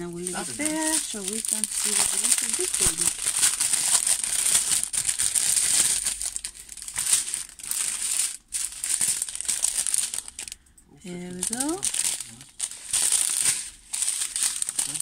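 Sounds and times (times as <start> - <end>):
plastic wrapping crinkling: 0.0 - 10.6, 11.2 - 15.0.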